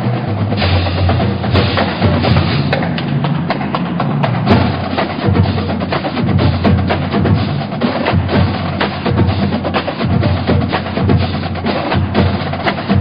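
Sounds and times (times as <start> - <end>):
drum and percussion music: 0.0 - 13.0.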